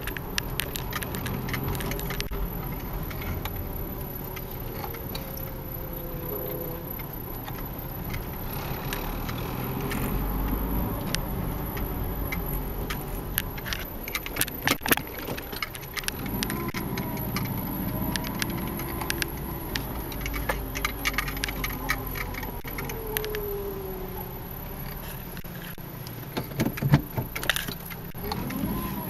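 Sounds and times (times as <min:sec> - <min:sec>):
car engine running: 0:00.0 - 0:29.0
scattered clicks: 0:00.0 - 0:29.0.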